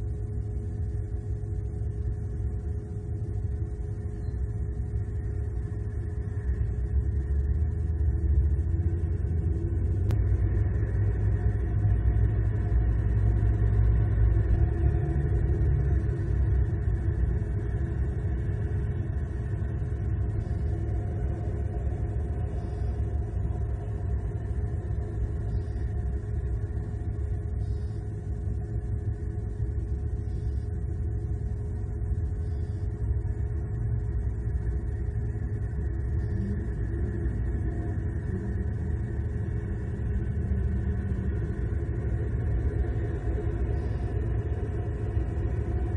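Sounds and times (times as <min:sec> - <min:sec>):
low outdoor rumble: 0:00.0 - 0:45.9.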